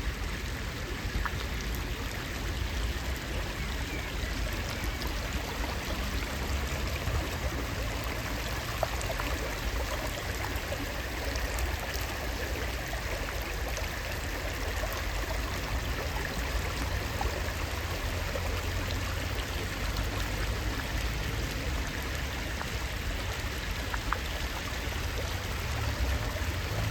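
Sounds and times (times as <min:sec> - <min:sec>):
rain on water: 0:00.0 - 0:26.9.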